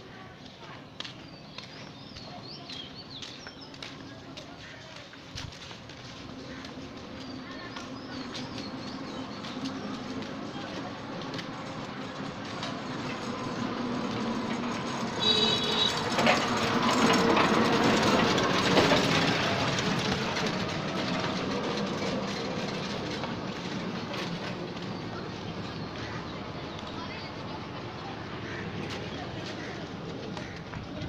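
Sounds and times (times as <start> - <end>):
auto-rickshaw engine rattle: 1.8 - 31.0.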